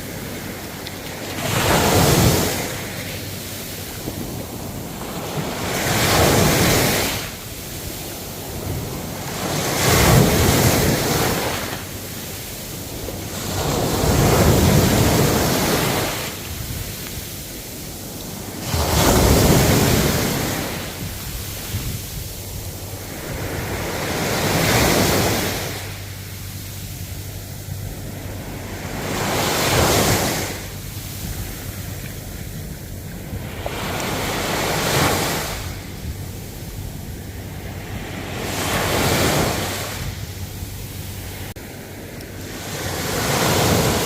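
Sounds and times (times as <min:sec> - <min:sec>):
ocean waves breaking: 0:00.0 - 0:44.0.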